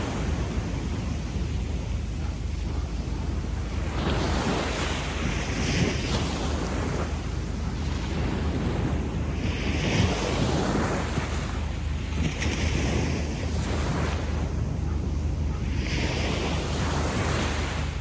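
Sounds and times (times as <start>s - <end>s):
waves washing on a beach: 0.0s - 18.0s.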